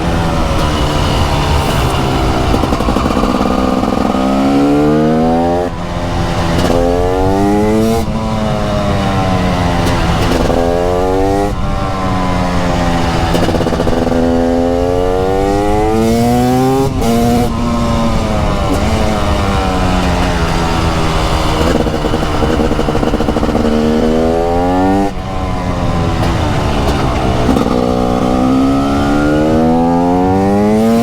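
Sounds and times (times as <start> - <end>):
motorcycle engine revving through gears: 0.0 - 31.0.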